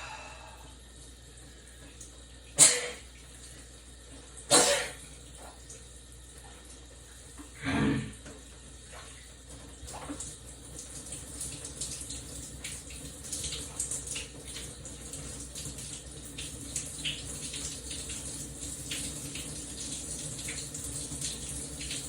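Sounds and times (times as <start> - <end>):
shower running: 0.0 - 22.0.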